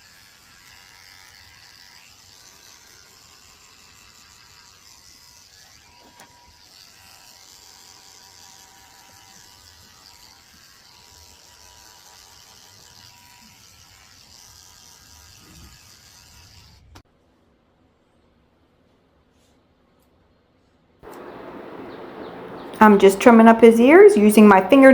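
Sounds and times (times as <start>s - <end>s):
electric clippers running: 0.0s - 17.0s, 21.0s - 24.9s.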